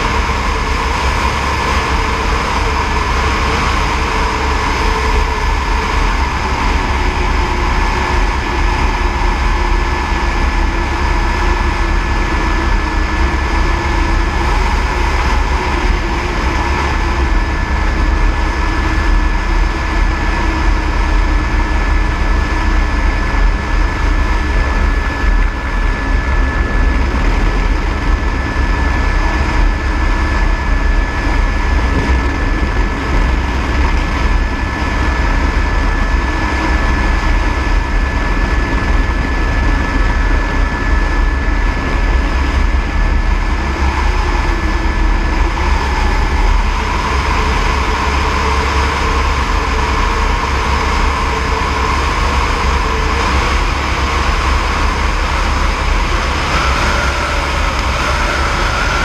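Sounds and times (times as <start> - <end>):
helicopter rotor rumble: 0.0 - 59.0
thin high whine: 0.0 - 59.0.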